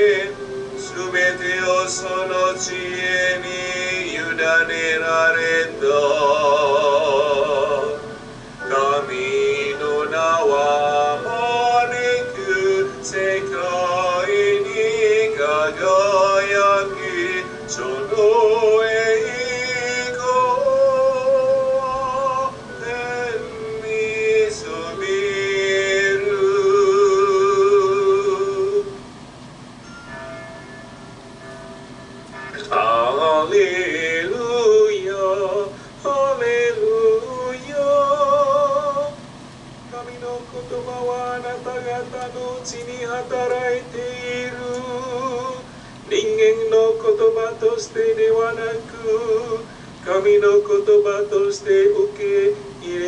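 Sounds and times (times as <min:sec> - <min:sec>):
person singing a hymn with vibrato: 0:00.0 - 0:29.1, 0:32.2 - 0:53.0.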